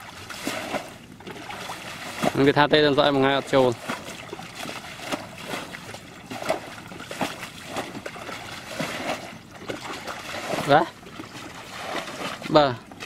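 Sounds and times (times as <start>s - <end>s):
hands splashing muddy water: 0.0s - 13.0s.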